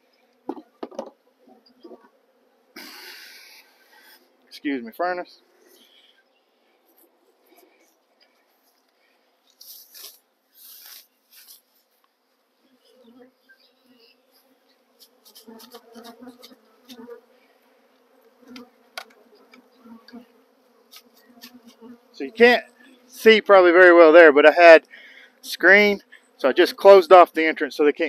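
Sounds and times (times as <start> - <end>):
bees buzzing: 0.1 - 11.4, 12.6 - 27.8.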